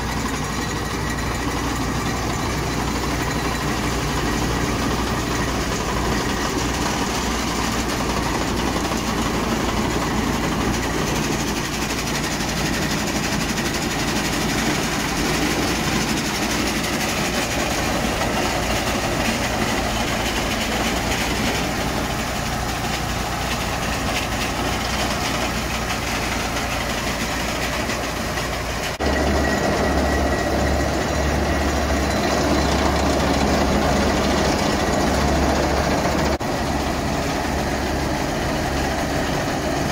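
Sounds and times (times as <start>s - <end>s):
roller compactor diesel engine: 0.0s - 39.9s.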